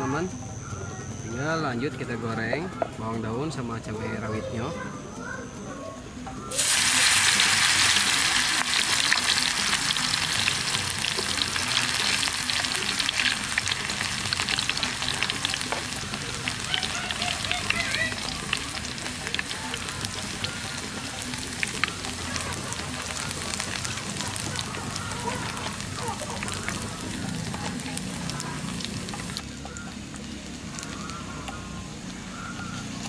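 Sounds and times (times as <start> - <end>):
oil crackling and popping: 6.5 - 33.0
vegetables sizzling in hot oil: 6.5 - 33.0.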